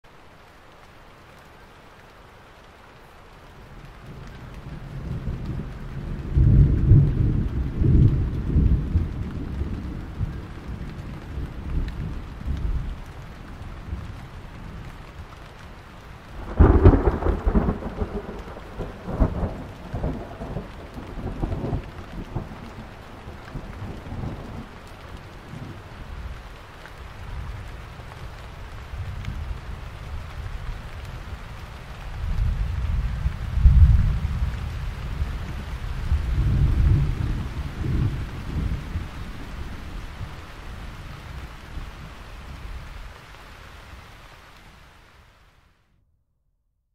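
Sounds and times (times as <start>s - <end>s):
rain falling: 0.0s - 45.8s
thunder rumbling: 3.8s - 15.1s, 16.2s - 43.0s.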